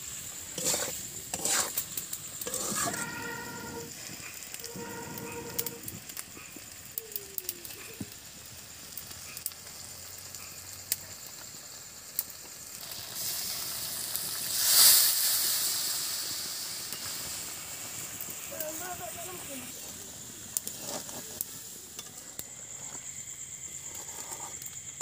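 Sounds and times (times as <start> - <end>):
fish sizzling in oil: 0.0 - 25.0
loud hiss of steam: 0.0 - 25.0
sharp crackles: 0.0 - 25.0.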